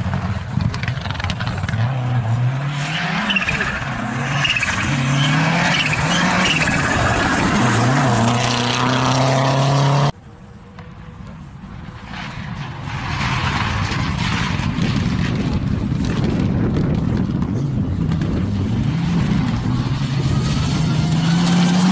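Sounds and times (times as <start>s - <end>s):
rally car engine revving: 0.0s - 10.2s, 12.9s - 21.9s
distant car engine: 0.0s - 21.9s.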